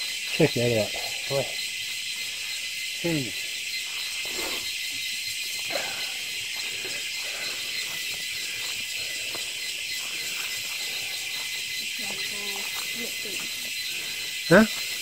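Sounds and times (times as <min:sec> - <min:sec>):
cicadas droning: 0:00.0 - 0:15.0
faint footsteps on trail: 0:00.0 - 0:15.0.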